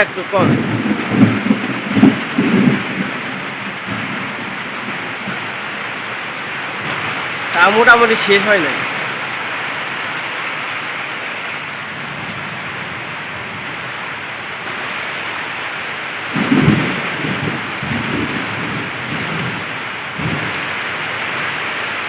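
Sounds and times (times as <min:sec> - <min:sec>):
thunder rumbling: 0:00.0 - 0:10.0, 0:11.6 - 0:21.8
heavy rain falling: 0:00.0 - 0:22.0.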